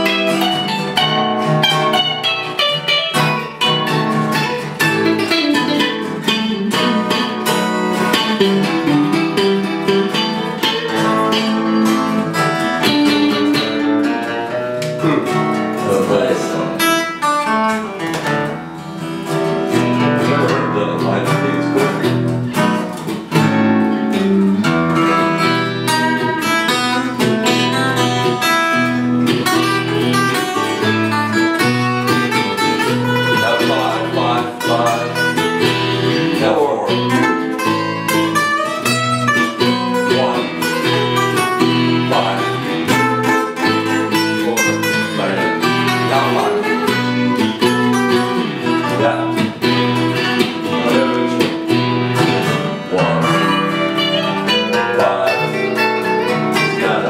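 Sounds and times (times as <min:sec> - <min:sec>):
acoustic guitar picked: 0:00.0 - 0:57.0
electric twelve-string guitar: 0:00.0 - 0:57.0.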